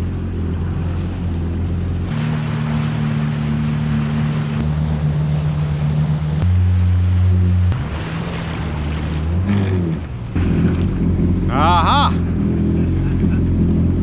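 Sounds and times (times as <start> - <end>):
water noise: 0.0 - 14.0
watercraft engines running: 0.0 - 14.0.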